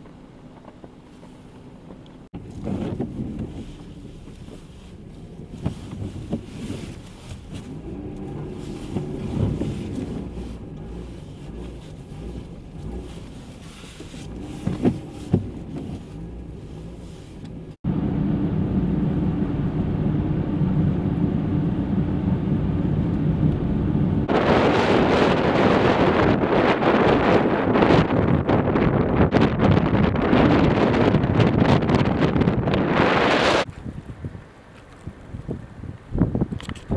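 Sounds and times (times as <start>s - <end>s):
vehicle engine hum: 0.0s - 36.9s
wind buffeting microphone: 2.3s - 36.9s.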